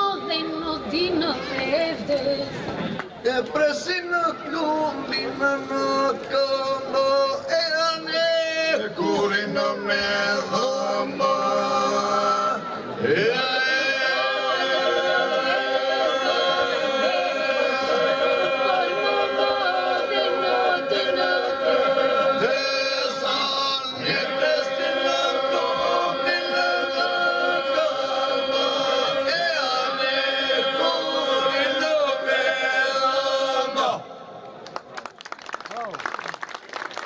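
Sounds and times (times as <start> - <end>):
held vocal drone: 3.2 - 34.3
group singing unaccompanied: 3.3 - 34.2.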